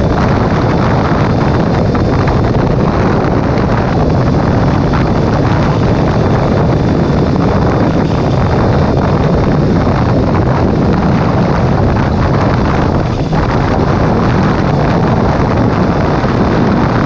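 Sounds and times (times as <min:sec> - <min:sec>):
motorcycle engine: 0:00.0 - 0:17.0
road noise: 0:00.0 - 0:17.0
wind buffeting microphone: 0:00.0 - 0:17.0.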